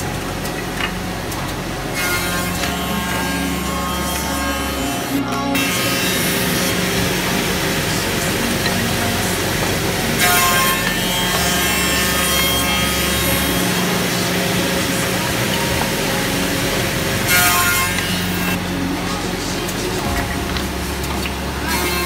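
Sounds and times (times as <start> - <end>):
cutters milling wood: 0.0 - 22.0
machine spindles humming: 0.0 - 22.0.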